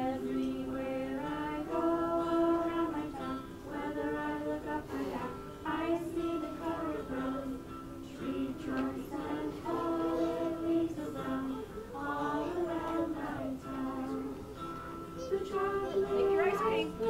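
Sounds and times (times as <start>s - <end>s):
children singing in unison: 0.0s - 17.0s.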